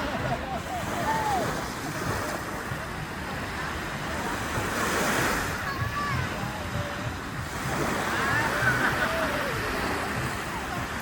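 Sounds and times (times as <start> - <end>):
faint voices: 0.0 - 11.0
sea waves washing onto beach: 0.0 - 11.0.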